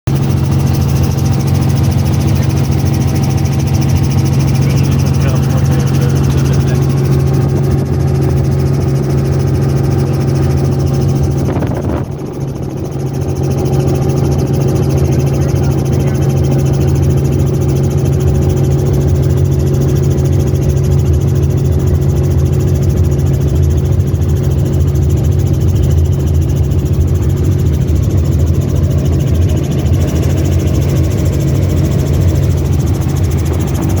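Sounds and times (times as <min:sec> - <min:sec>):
helicopter engine and rotor drone: 0:00.1 - 0:34.0.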